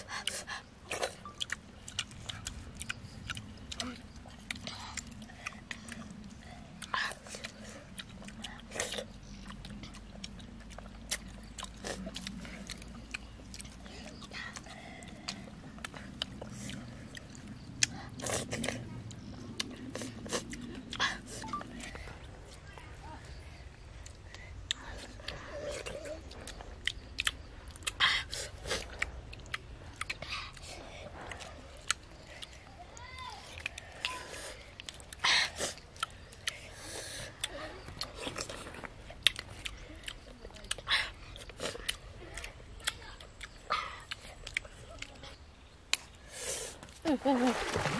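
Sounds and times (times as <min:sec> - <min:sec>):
lip-smacking: 0:00.0 - 0:47.1
mouth eating noises: 0:00.0 - 0:47.1
wet chewing: 0:00.0 - 0:47.9.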